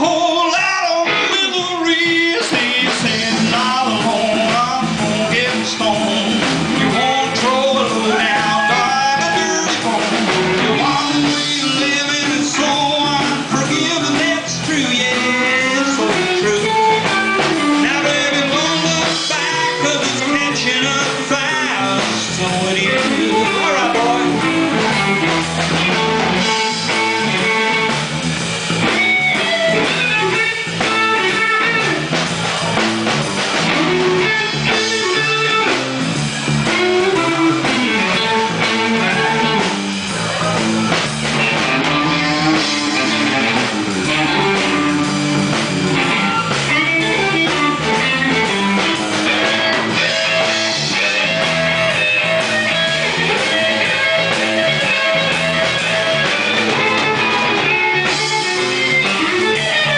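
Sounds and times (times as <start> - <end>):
drum kit: 0.0 - 59.9
electric guitar lead: 0.0 - 59.9.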